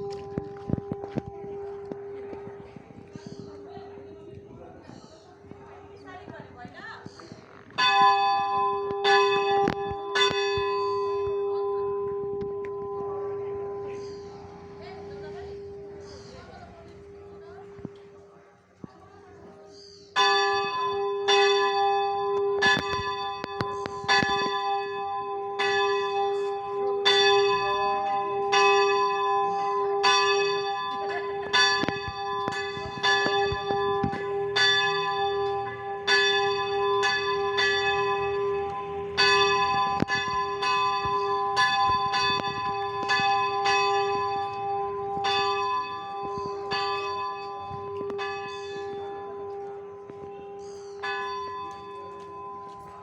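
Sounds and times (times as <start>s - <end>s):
church bell ringing: 0.0s - 4.5s, 7.8s - 17.9s, 20.2s - 53.0s.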